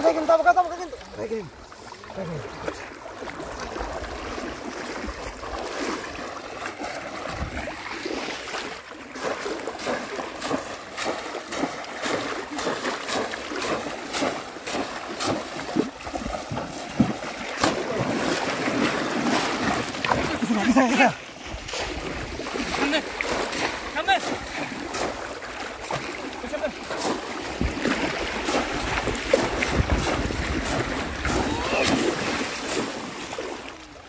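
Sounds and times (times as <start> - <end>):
river water splashing and sloshing: 0.0 - 34.0.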